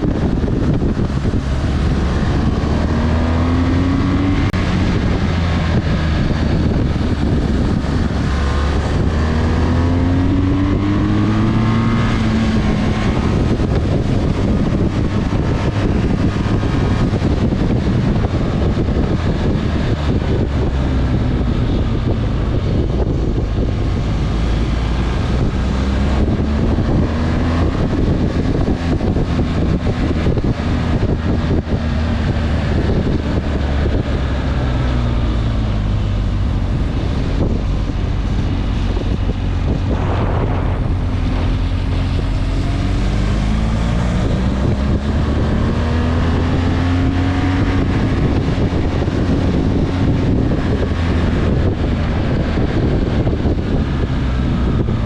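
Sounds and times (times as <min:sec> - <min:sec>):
motorcycle engine revving: 0:00.0 - 0:55.0
wind buffeting microphone: 0:00.0 - 0:55.0.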